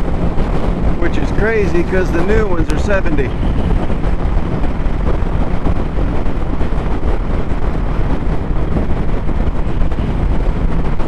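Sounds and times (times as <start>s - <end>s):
road noise: 0.0s - 11.0s
wind buffeting microphone: 0.0s - 11.0s
motorcycle engine: 2.1s - 11.0s.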